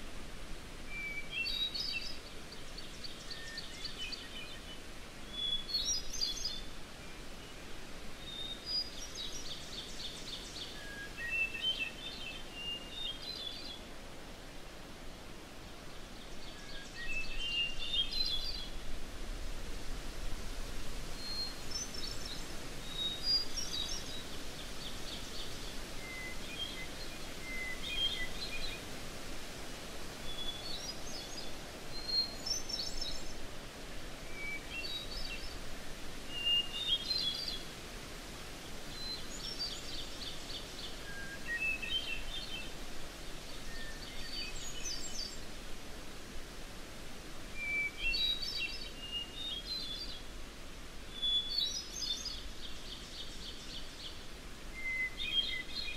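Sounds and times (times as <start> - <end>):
background hiss: 0.0 - 55.9
songbirds singing: 0.6 - 18.8, 20.6 - 55.9.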